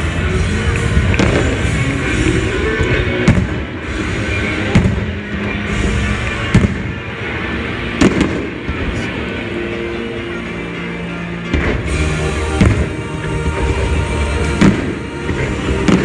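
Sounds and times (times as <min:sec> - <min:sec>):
fireworks bangs: 0:00.0 - 0:09.4, 0:11.5 - 0:16.0
music: 0:00.0 - 0:16.0.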